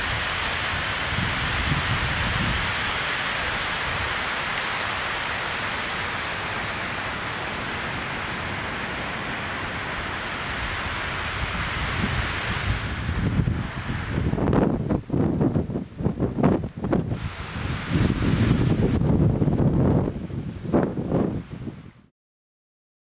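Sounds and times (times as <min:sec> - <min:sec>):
heavy rain hissing: 0:00.0 - 0:22.1.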